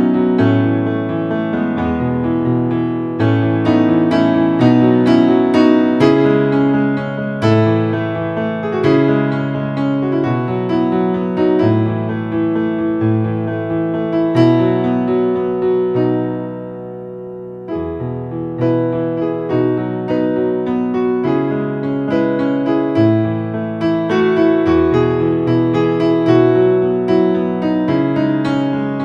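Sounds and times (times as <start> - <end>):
solo piano in minor key: 0.0 - 29.0.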